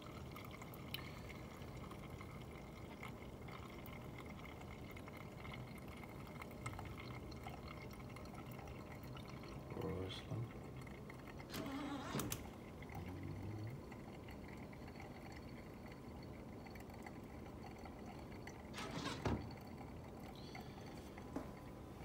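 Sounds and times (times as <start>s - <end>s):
coffee dripping into carafe: 0.0s - 22.0s.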